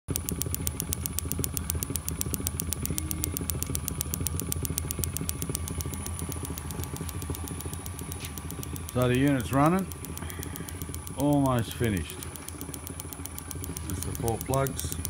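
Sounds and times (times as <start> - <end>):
electric motor hum and whine: 0.0 - 15.0
spark plugs snapping: 0.0 - 15.0.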